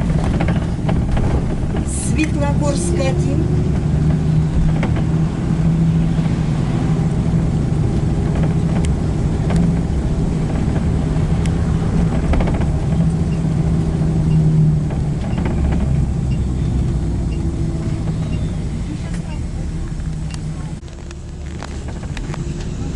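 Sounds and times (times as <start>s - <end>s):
road rumble: 0.0s - 22.9s
vehicle engine hum: 0.0s - 22.9s.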